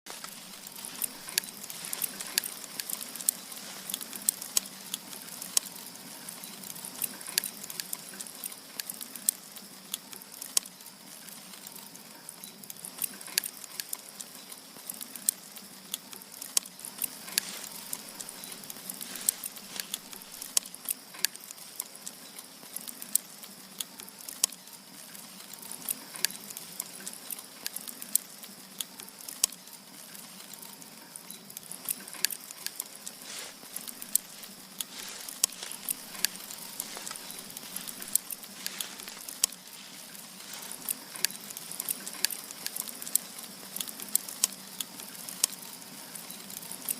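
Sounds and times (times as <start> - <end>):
firewood crackling and popping: 0.0 - 46.9.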